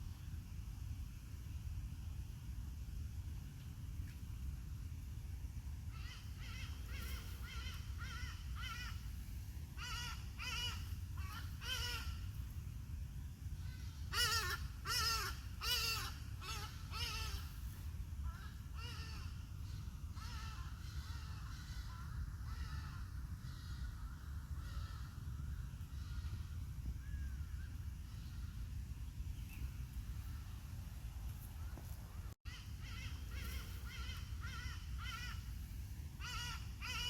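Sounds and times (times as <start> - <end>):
steady low rumble: 0.0 - 36.9.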